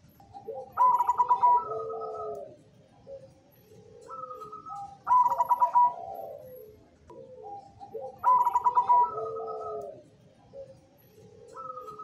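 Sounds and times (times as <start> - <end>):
dove cooing with rolling trill: 0.0 - 12.0.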